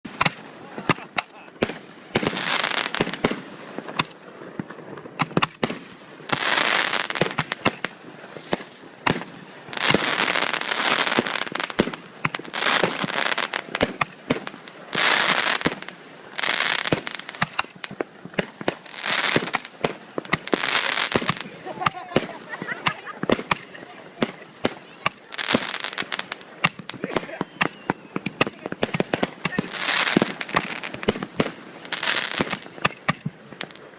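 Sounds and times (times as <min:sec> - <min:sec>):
firecracker bangs and pops: 0:00.1 - 0:33.8
fireworks hissing crackle: 0:00.1 - 0:33.9.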